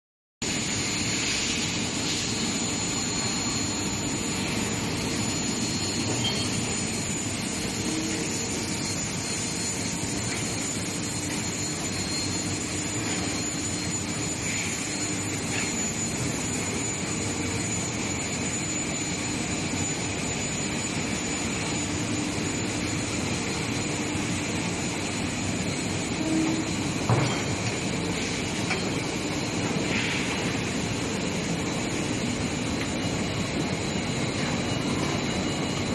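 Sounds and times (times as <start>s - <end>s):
furnace machinery noise: 0.4s - 35.9s
high-pitched whines: 0.4s - 35.9s.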